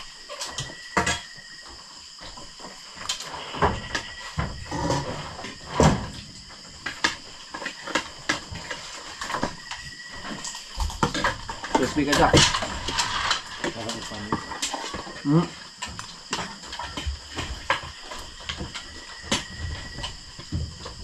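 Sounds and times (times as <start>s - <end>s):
irregular knocks and clicks: 2.2s - 21.0s.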